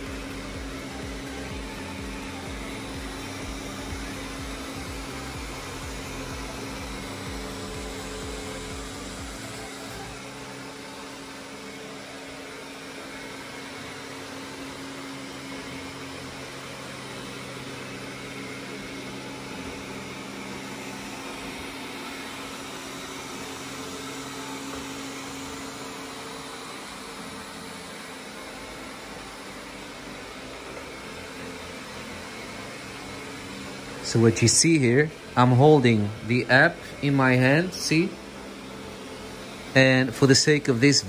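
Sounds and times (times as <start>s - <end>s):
robot vacuum cleaner whirring: 0.0s - 41.0s.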